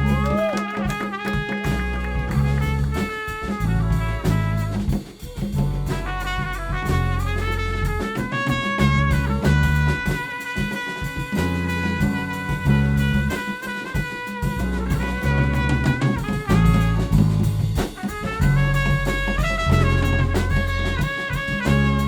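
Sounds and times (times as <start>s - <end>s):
bass line: 0.0s - 22.0s
drum kit: 0.0s - 22.0s
trumpet melody: 0.0s - 22.0s.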